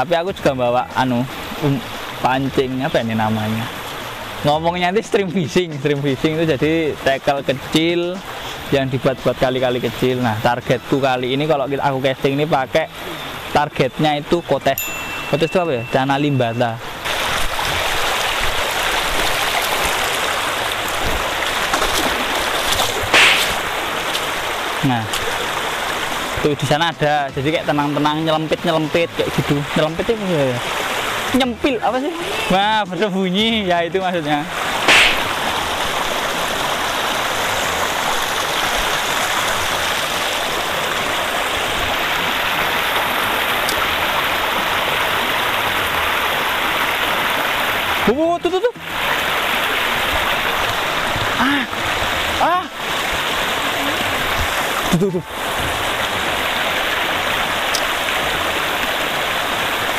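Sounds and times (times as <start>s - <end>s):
stream water rushing over stones: 0.0s - 59.9s.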